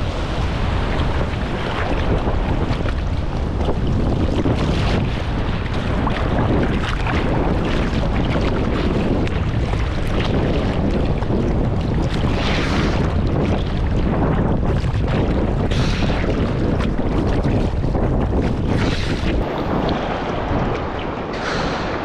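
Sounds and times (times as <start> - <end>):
water sloshing and splashing: 0.0 - 22.0
wind rumble on microphone: 0.0 - 22.0.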